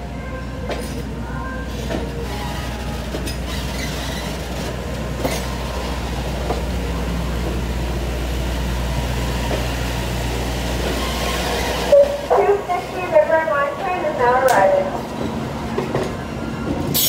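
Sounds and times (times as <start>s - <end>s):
train wheels rumbling on rails: 0.3s - 17.0s.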